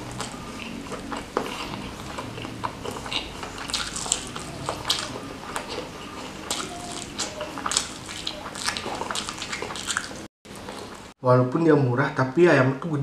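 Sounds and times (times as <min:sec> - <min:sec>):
wet chewing with clicks: 0:00.0 - 0:11.1.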